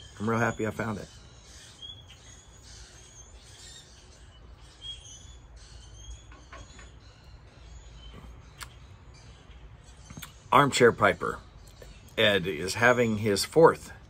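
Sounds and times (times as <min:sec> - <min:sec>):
birds chirping: 0:00.0 - 0:14.0
low outdoor hum: 0:00.0 - 0:14.0.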